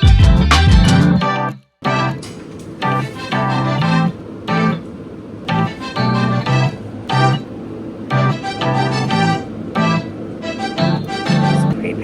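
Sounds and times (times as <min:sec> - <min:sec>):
keyboard chords in short beats: 0:00.0 - 0:04.9, 0:05.5 - 0:12.0.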